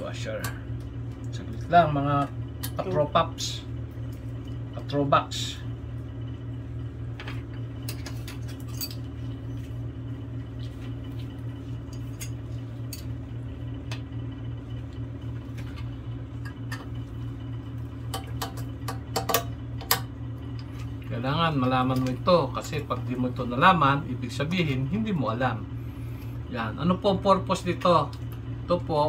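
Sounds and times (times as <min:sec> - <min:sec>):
steady low background hum: 0:00.0 - 0:29.0.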